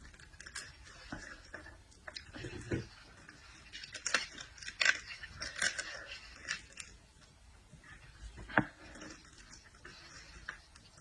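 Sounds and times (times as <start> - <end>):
seafood chewing crackles: 0.0 - 11.0.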